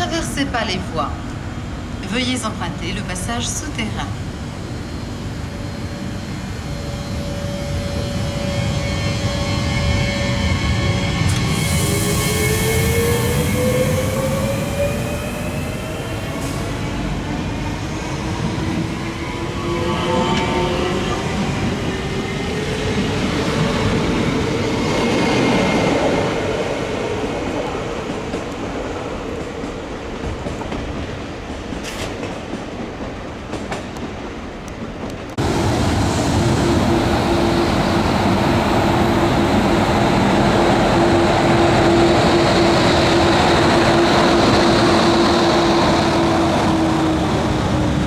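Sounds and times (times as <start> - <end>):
train hum: 0.0 - 48.0
train wheels rumbling: 0.0 - 48.0
train running gear whine: 3.1 - 30.0, 35.0 - 48.0.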